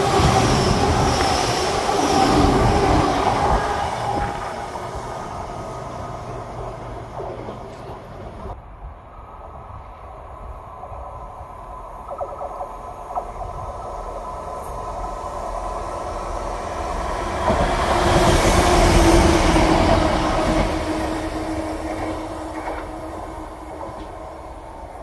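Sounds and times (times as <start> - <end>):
train rumble and wheel noise: 0.0 - 25.0.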